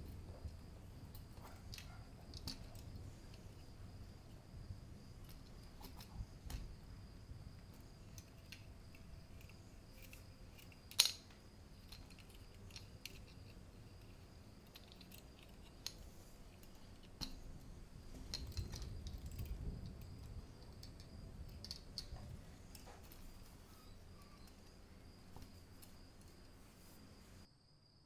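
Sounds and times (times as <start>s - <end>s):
small metal and plastic parts clicking: 0.4s - 4.4s, 5.2s - 6.8s, 7.6s - 26.5s.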